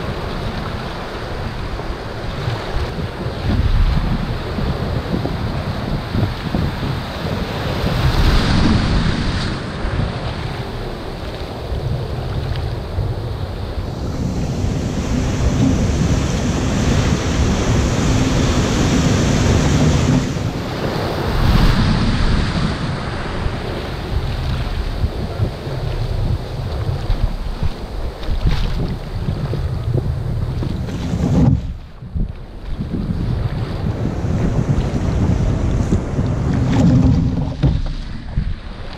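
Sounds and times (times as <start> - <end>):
ocean surf breaking: 0.0 - 38.9
water rushing around a kayak: 0.0 - 38.9
wind buffeting microphone: 0.0 - 38.9.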